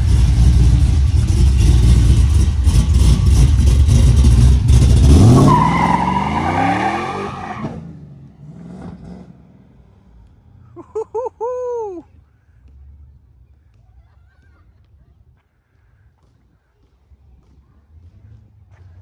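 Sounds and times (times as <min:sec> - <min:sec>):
vehicle engine rumbling and accelerating: 0:00.0 - 0:19.0.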